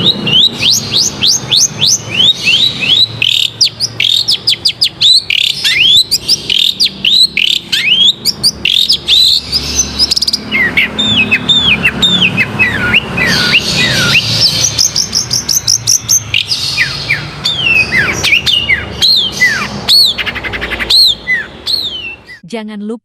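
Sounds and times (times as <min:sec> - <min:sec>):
shrike singing: 0:00.0 - 0:22.6.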